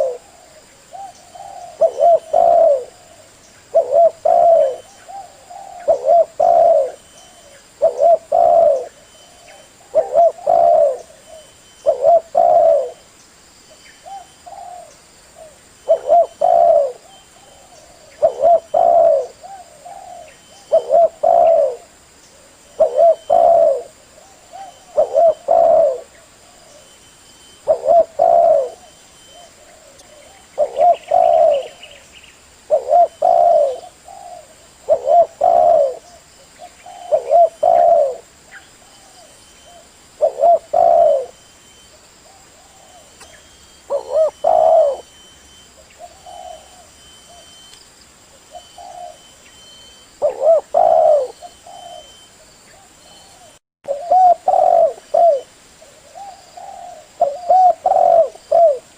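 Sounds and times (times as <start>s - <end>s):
dove cooing: 0.0s - 13.1s, 14.0s - 32.0s, 32.7s - 47.7s, 48.3s - 58.9s.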